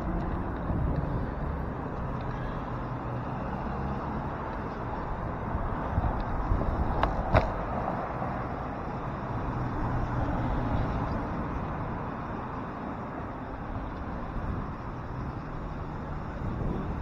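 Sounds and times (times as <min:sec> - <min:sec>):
cars and trucks driving past: 0:00.0 - 0:17.0.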